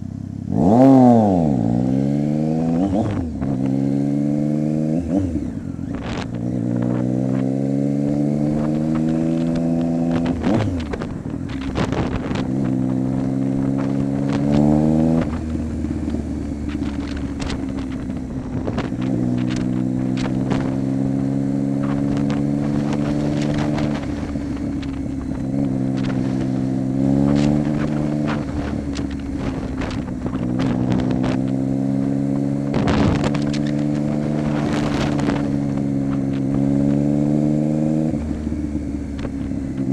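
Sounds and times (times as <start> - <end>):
motorcycle engine revving through gears: 0.0 - 39.9
wind buffeting microphone: 0.8 - 39.9.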